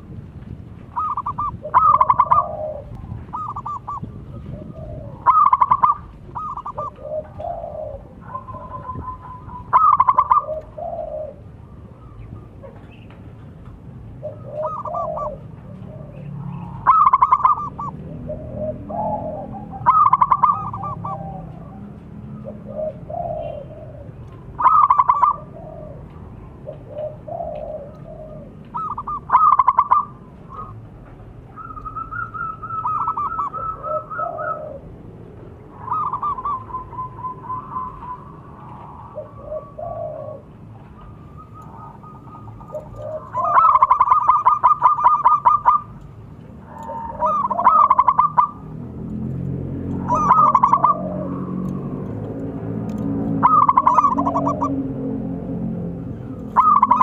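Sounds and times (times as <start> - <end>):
dove trilling: 0.8 - 13.4, 14.0 - 57.0
dove cooing: 0.9 - 13.1, 14.0 - 30.9, 31.5 - 35.0, 35.6 - 57.0.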